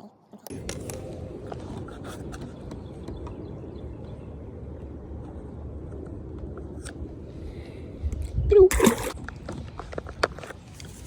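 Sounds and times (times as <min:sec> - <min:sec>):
wind buffeting microphone: 0:00.5 - 0:11.0.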